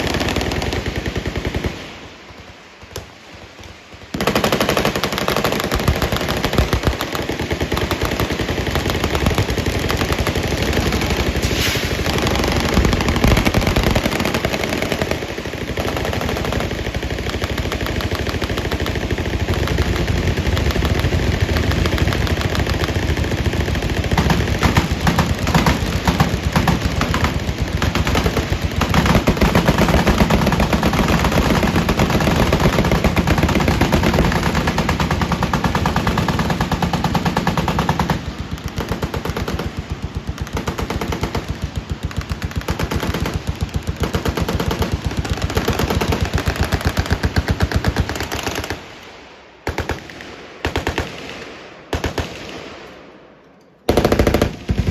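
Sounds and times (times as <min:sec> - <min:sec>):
machine guns firing: 0:00.0 - 0:49.0, 0:49.6 - 0:53.0, 0:53.9 - 0:54.9.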